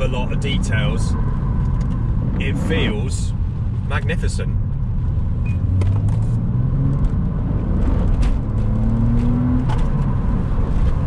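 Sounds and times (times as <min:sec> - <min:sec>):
car engine rumble: 0:00.0 - 0:11.0
road noise inside car: 0:00.0 - 0:11.0.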